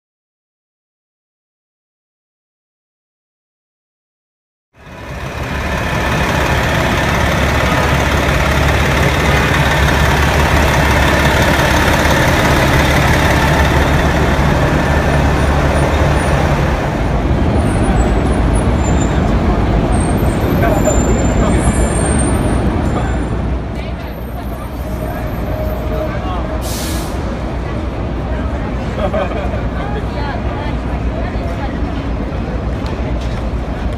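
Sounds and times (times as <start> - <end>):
road noise: 4.8 - 33.9
traffic engine rumble: 4.8 - 33.9.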